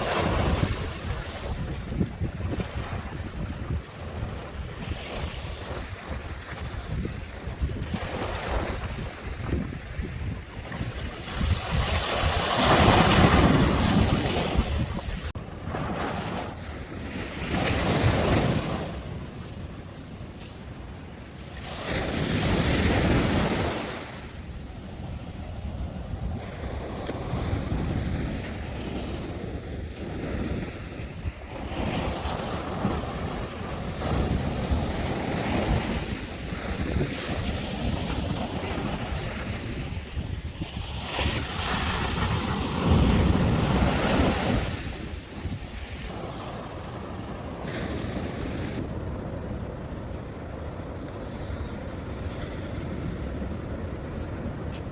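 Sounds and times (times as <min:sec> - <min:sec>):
sea waves breaking: 0:00.0 - 0:54.9
wind buffeting microphone: 0:00.0 - 0:54.9.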